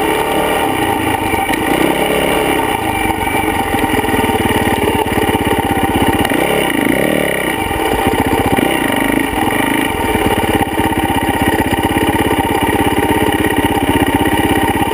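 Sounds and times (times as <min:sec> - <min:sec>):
motorcycle engine revving and idling: 0:00.0 - 0:14.9.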